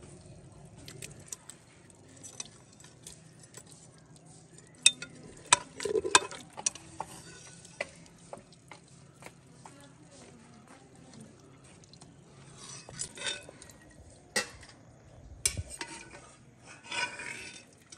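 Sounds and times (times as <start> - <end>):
metal spoon stirring in a pot: 0.0 - 14.8, 15.4 - 17.9.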